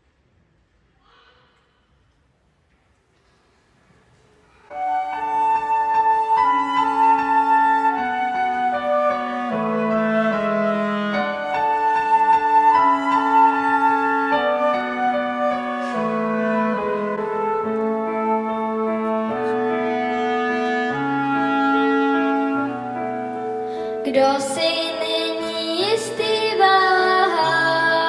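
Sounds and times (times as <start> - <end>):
flute melody in held notes: 4.7 - 28.0
keyboard accompaniment: 4.7 - 28.0.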